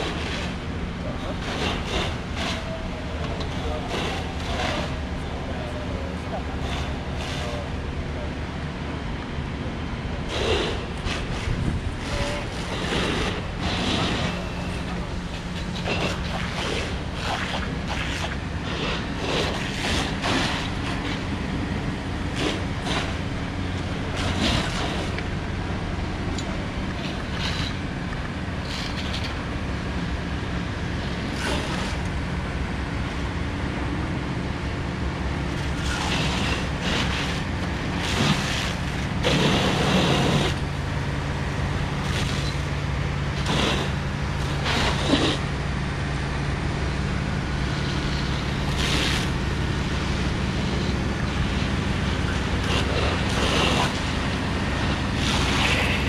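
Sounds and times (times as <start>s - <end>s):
engines droning: 0.0s - 56.0s.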